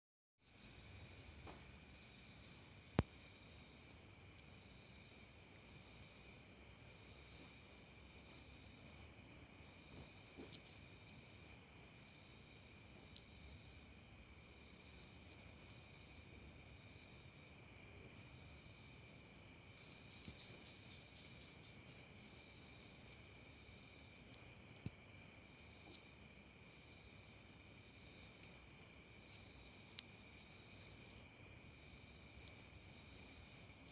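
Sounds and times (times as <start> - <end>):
crickets and insects chirping: 0.5 - 33.9.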